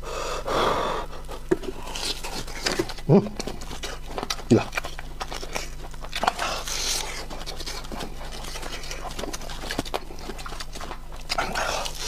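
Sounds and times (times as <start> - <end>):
crunching fried chicken: 1.2 - 12.0.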